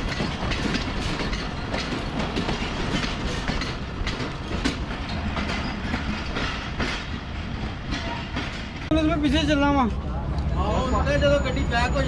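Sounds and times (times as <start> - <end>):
wheels clacking over rail joints: 0.0 - 10.0
train rumbling on track: 0.0 - 12.0.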